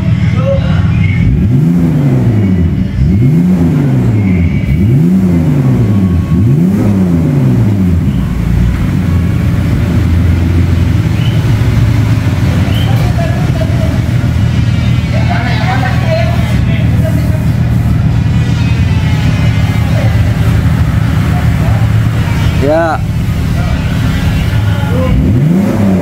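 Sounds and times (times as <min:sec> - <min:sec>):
car engine revving and idling: 0:00.0 - 0:26.0.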